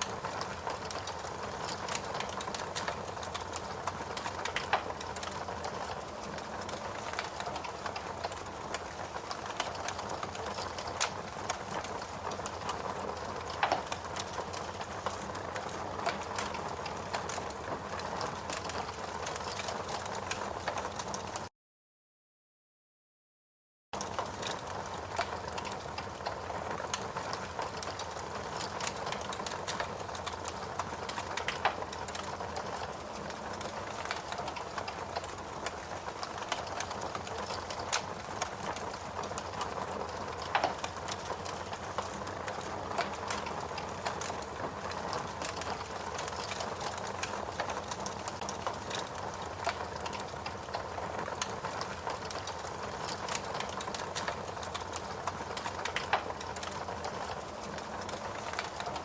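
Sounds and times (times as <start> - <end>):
fire crackling and popping: 0.0 - 21.5, 24.0 - 59.0.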